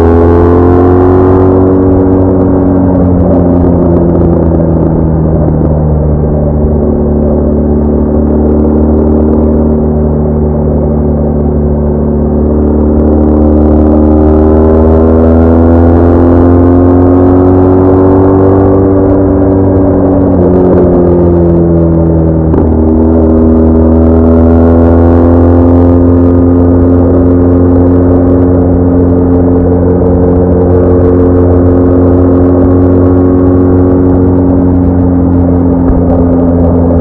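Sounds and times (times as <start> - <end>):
low rumble: 0.0 - 16.9, 17.5 - 25.0, 26.5 - 37.0
motorcycle engine drone: 0.0 - 37.0.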